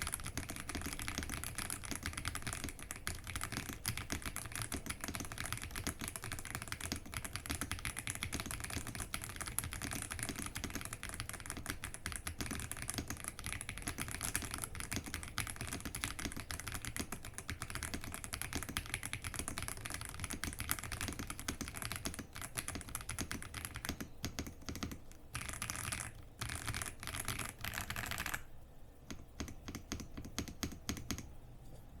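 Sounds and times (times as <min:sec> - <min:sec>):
mechanical keyboard typing: 0:00.0 - 0:31.3.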